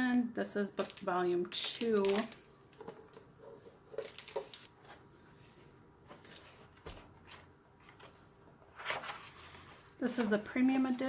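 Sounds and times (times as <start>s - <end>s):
faint book rustling: 0.8s - 11.0s
book pages rustling: 1.6s - 11.0s.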